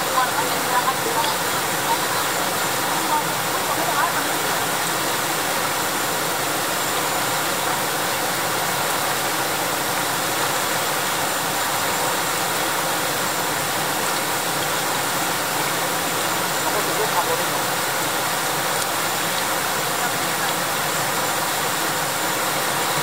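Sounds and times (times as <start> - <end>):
river water rushing over rapids: 0.0 - 23.0.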